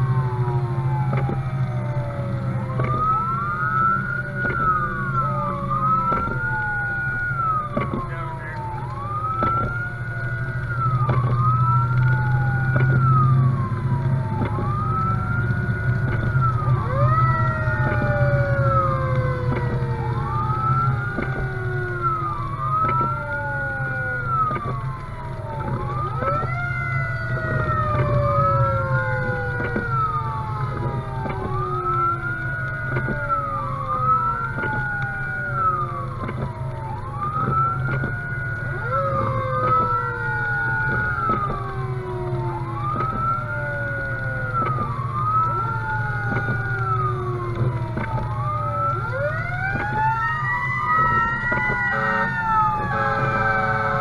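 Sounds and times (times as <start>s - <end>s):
fire engine siren wailing: 0.0s - 54.0s
truck engine humming: 0.0s - 54.0s.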